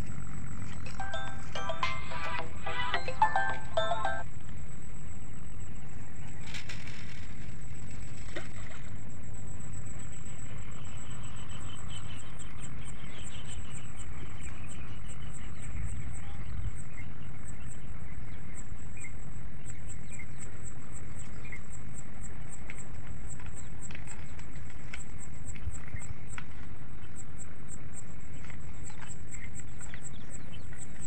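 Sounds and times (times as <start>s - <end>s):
insects trilling and chirping: 2.6s - 31.0s
wind rumble on microphone: 5.2s - 31.0s.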